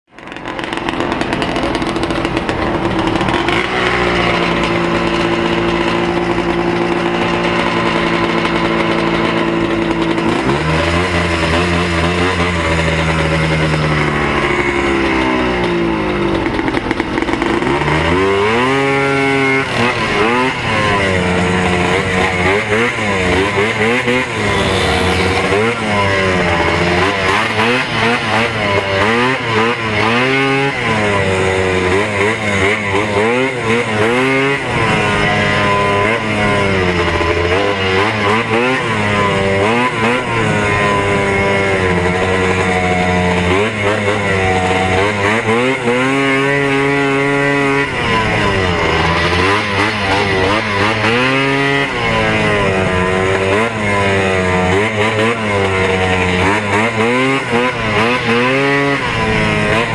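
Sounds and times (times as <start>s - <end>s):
other snowmobiles running: 0.0s - 59.9s
snowmobile engine revving: 0.0s - 59.9s.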